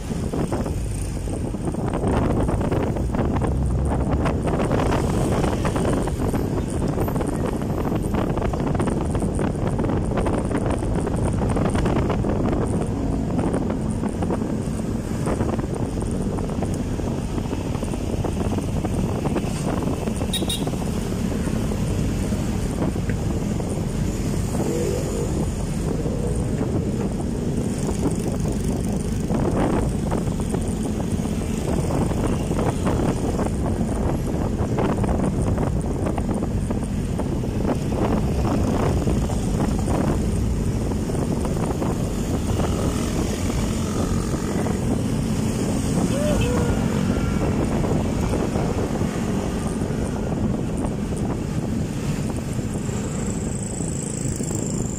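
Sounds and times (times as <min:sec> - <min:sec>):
road rumble: 0:00.0 - 0:54.9
wind buffeting microphone: 0:00.0 - 0:54.9.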